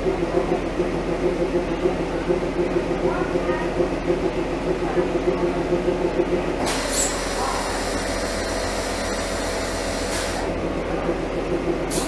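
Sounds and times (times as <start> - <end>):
diesel engine low pulsing: 0.0 - 12.0.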